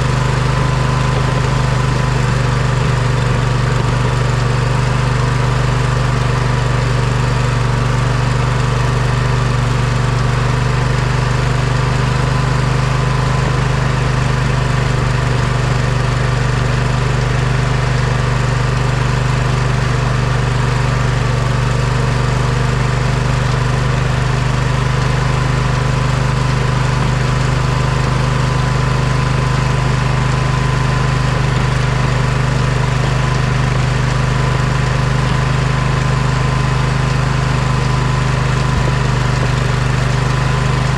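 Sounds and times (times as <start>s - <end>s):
riding lawn mower engine running: 0.0s - 40.9s.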